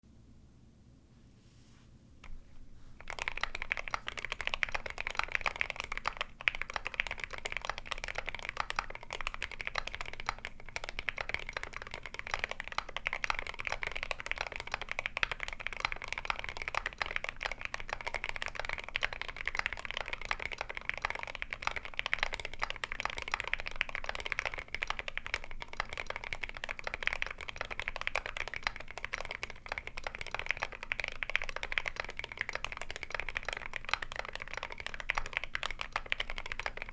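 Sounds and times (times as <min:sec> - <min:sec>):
mechanical keyboard typing: 0:03.0 - 0:36.9.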